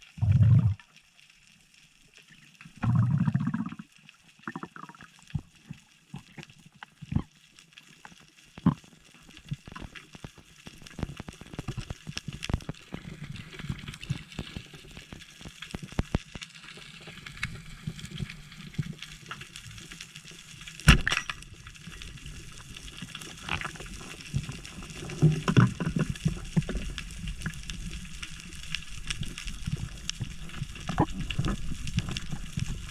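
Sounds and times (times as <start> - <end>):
underwater clicks and crackles: 0.0 - 32.9.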